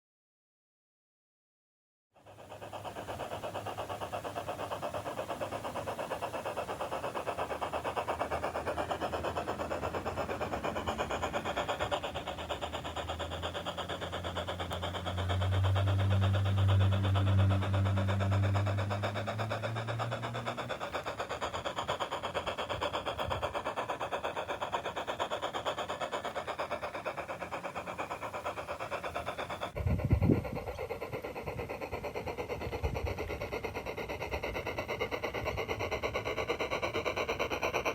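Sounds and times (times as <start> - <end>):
machine whirring: 2.3 - 37.9.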